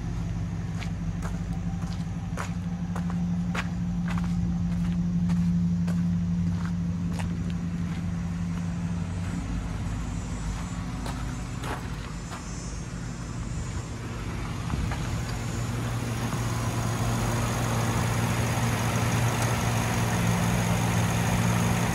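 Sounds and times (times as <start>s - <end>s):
truck engine idling: 0.0s - 21.9s.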